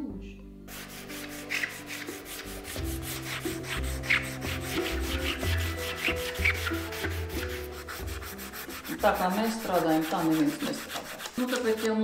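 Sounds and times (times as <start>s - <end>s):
background music: 0.0s - 12.0s
amber scraping on abrasive block: 0.7s - 12.0s.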